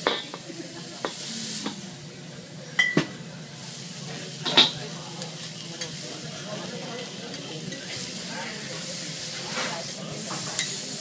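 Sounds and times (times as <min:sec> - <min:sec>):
steak sizzling on a griddle: 0:00.0 - 0:11.0.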